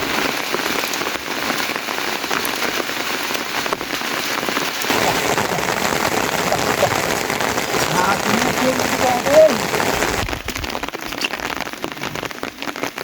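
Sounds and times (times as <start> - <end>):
heavy rain falling: 0.3 - 13.0.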